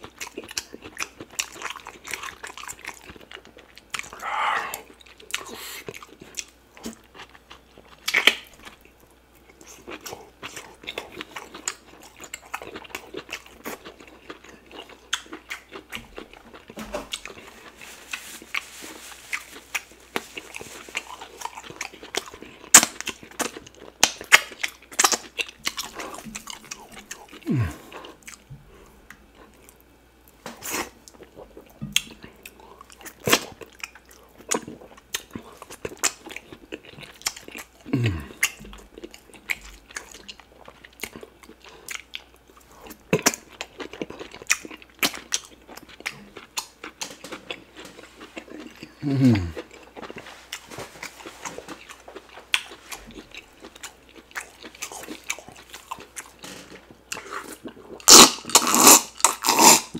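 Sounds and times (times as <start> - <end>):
wet chewing: 0.0 - 29.8, 30.6 - 59.9.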